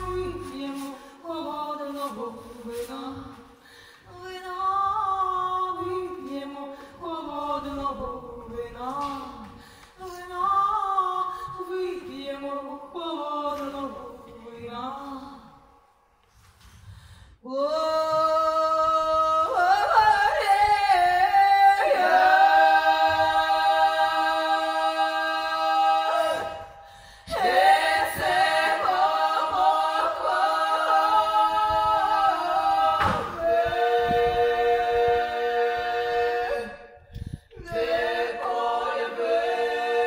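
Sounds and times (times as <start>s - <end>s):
women singing a cappella: 0.0s - 16.0s, 17.4s - 40.0s.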